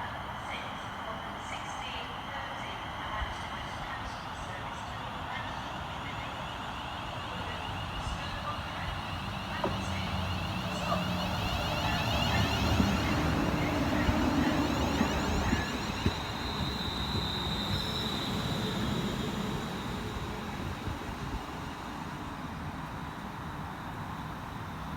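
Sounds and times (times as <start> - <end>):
train rumbling past: 3.3 - 24.9.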